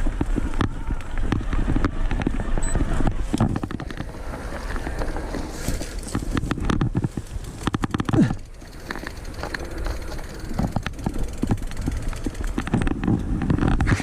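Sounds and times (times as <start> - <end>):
bike clattering over bumps: 0.0 - 14.0
wind buffeting microphone: 0.0 - 14.0.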